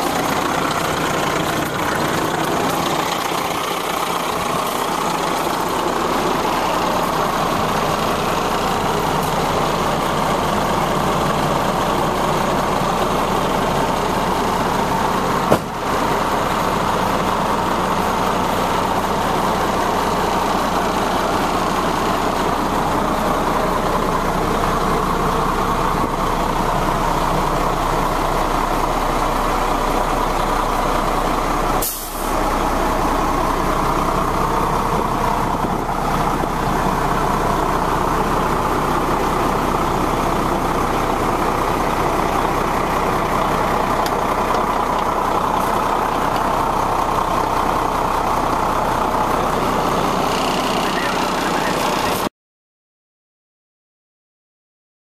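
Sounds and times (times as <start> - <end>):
truck engine idling: 0.0 - 52.3.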